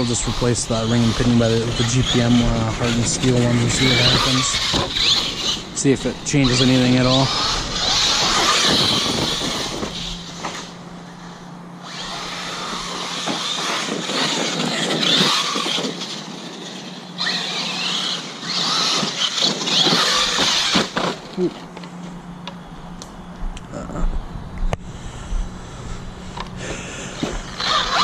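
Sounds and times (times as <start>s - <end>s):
electric motor whining: 0.0s - 23.6s, 24.2s - 28.0s.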